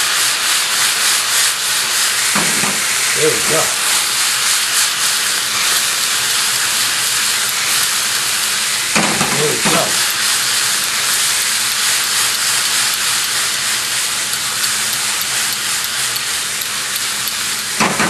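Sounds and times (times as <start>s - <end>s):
vegetables sizzling in a frying pan: 0.0s - 18.0s.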